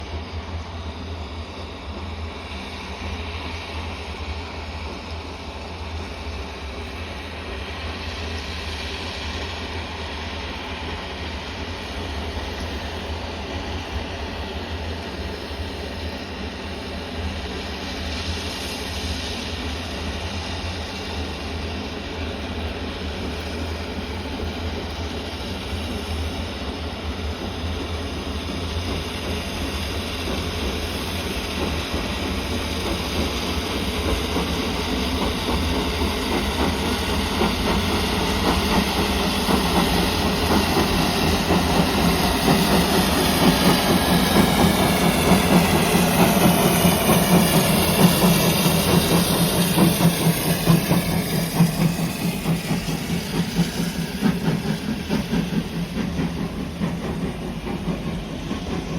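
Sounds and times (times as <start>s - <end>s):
steam train rumble and hiss: 0.0s - 58.9s.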